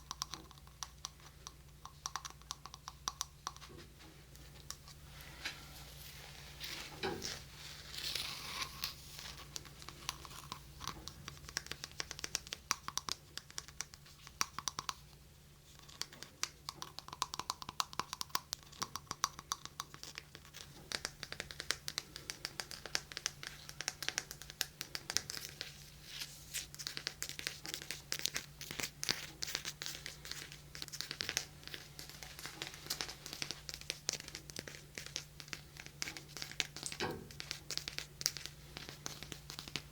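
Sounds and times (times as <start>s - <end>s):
hands tapping and scratching: 0.0s - 5.6s, 6.6s - 39.9s.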